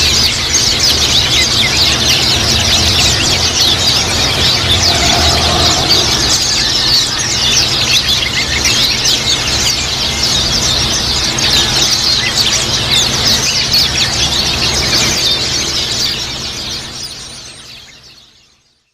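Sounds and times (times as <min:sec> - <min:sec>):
steady low hum: 0:00.0 - 0:17.0
birds chirping and twittering: 0:00.0 - 0:18.9.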